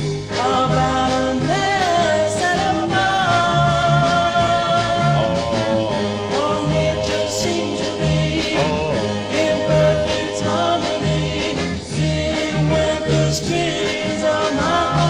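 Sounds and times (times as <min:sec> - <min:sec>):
band with bass line: 0:00.0 - 0:15.0
vocal group singing: 0:00.3 - 0:15.0.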